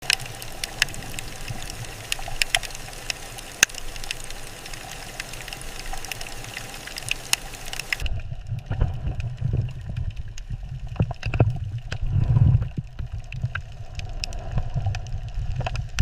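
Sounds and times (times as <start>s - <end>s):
water hiss with crackling clicks: 0.0s - 16.0s.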